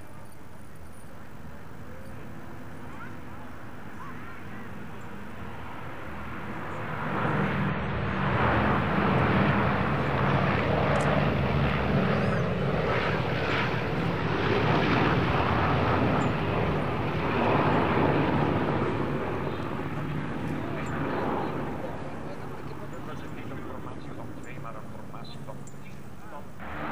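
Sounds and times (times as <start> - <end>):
aircraft piston engines in flight: 0.0 - 26.9.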